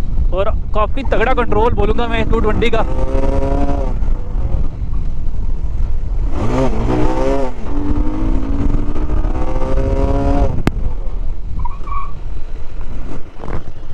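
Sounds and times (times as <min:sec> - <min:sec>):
motorcycle engine accelerating: 0:00.0 - 0:13.9
wind rush on microphone: 0:00.0 - 0:13.9.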